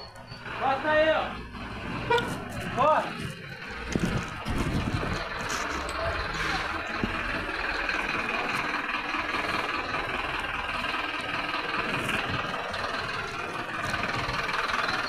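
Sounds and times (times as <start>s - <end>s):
garbage truck engine running: 0.0s - 15.0s.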